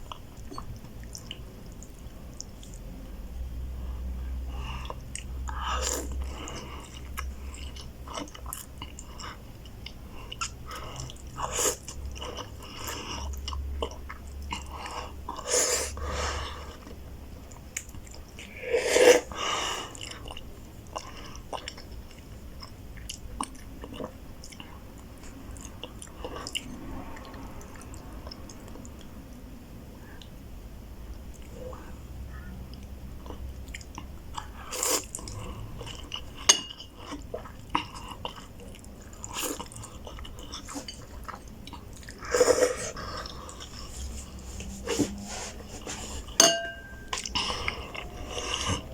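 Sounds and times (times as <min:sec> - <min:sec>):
person chewing noodles: 0:04.5 - 0:29.1, 0:31.3 - 0:48.9.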